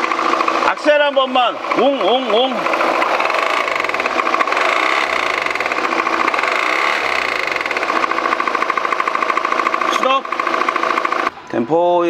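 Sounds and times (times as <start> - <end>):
diesel engine metallic rattle: 0.0 - 11.4.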